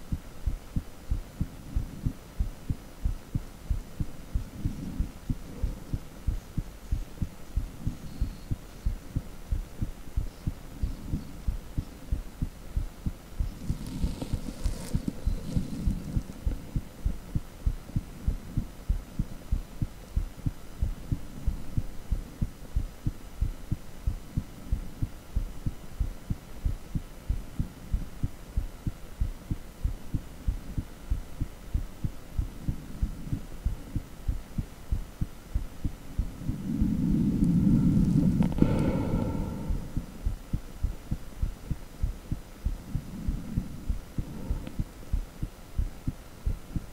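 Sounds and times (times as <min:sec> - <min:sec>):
low throbbing heartbeat: 0:00.0 - 0:46.9.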